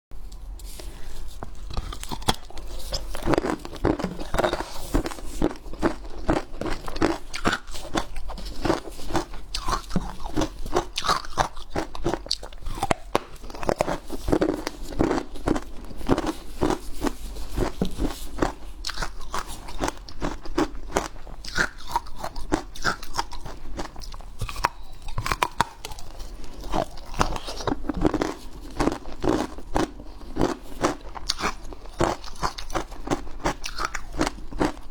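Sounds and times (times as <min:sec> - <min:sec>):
ice being chewed: 0:00.8 - 0:34.9.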